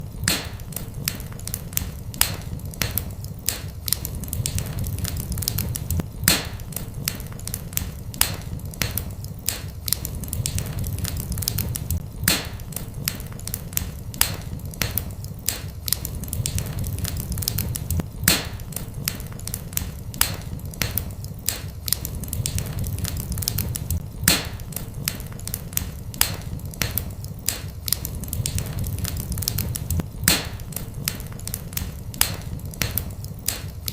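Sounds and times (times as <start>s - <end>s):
fireplace fire crackling: 0.0s - 33.9s
loud fire pops: 0.0s - 33.9s.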